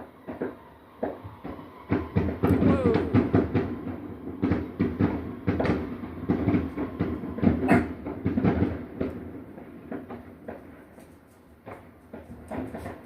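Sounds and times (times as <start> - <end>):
fireworks banging and popping: 0.0 - 13.0.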